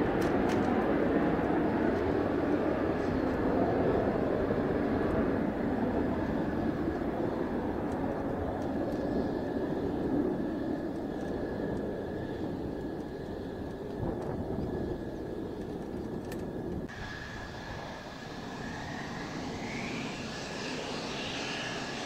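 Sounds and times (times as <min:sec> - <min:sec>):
jet engine rumbling: 0:00.0 - 0:22.0.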